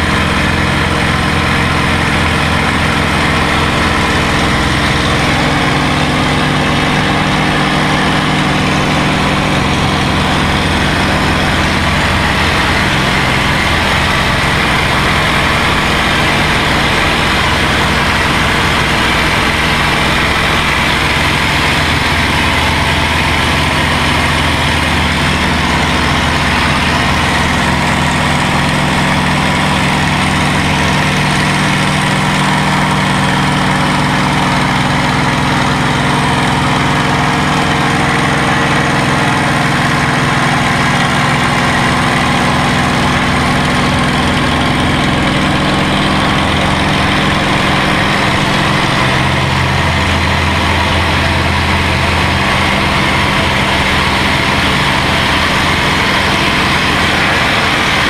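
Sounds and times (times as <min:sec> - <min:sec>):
aircraft engine in flight: 0:00.0 - 0:58.0.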